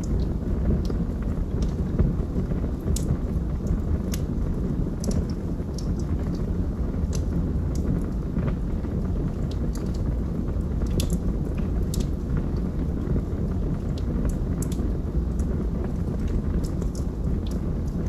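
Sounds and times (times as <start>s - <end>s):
log fire crackling: 0.0s - 18.0s.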